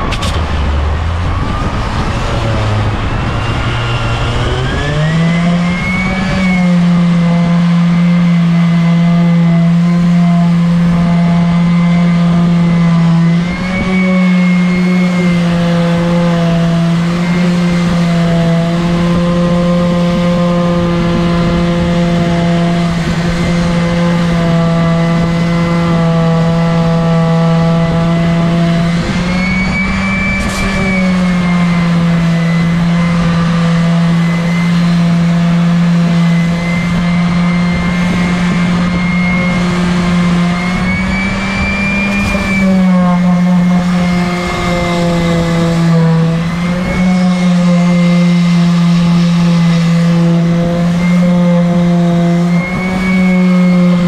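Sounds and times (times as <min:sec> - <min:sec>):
orbital sander motor hum: 0:00.0 - 0:54.0.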